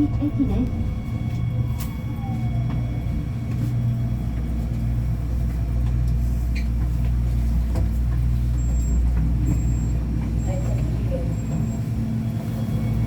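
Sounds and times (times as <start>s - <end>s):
light-rail car interior rumble: 0.0s - 13.0s.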